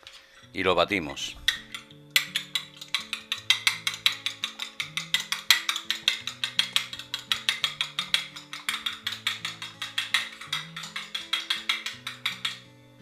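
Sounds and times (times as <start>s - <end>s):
background music with low notes: 0.0s - 13.0s
fork beating egg on plate: 1.5s - 12.7s.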